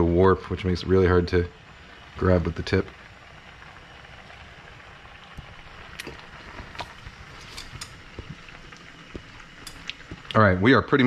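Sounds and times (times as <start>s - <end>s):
water boiling with bubbling hiss: 0.0s - 11.0s.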